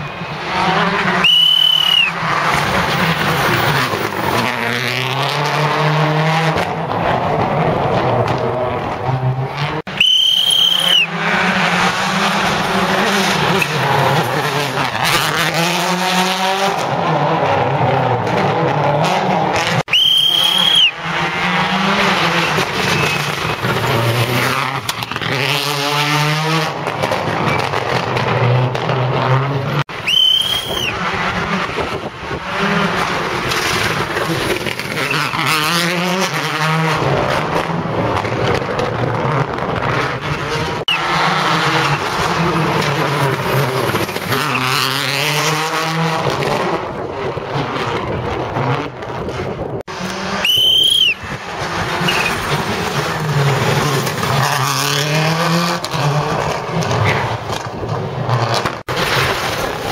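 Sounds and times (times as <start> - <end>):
rally car engines screaming past: 0.4 - 57.7.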